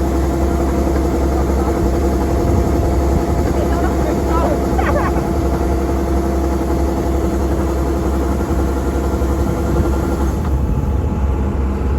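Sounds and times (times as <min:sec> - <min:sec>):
engine droning steadily: 0:00.0 - 0:11.9.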